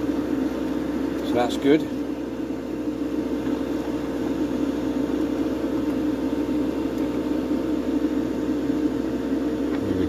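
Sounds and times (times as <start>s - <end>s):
extractor fan running: 0.0s - 10.0s.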